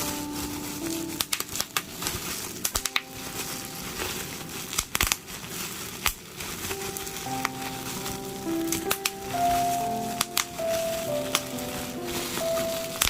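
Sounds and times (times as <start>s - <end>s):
bubble wrap popping: 0.0s - 13.0s
plastic sheet crinkling: 0.0s - 13.0s.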